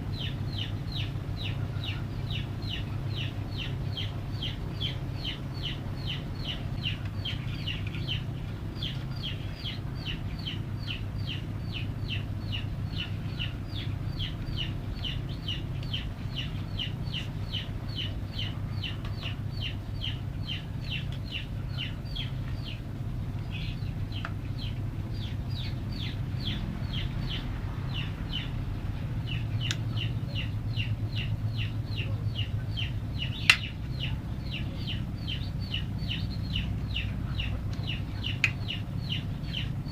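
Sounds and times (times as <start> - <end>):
chicks peeping: 0.0 - 39.9
low steady hum: 0.0 - 39.9.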